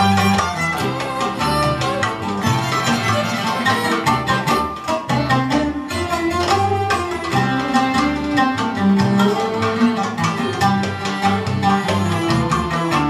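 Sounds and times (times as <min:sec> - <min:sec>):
double bass line: 0:00.0 - 0:13.0
percussion strokes: 0:00.0 - 0:13.0
plucked and bowed strings: 0:00.0 - 0:13.0.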